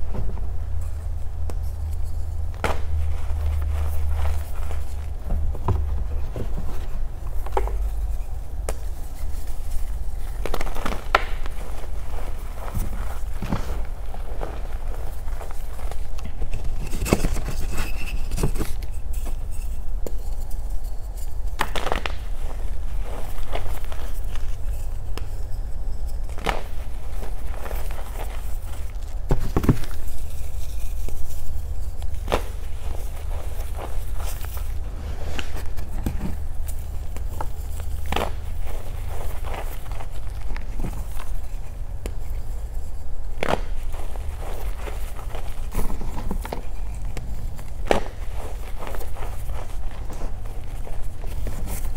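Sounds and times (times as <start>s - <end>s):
steady low rumble: 0.0s - 17.4s, 18.2s - 51.9s
steady low hum: 0.0s - 51.9s
chalk crunching and snapping: 0.8s - 51.9s.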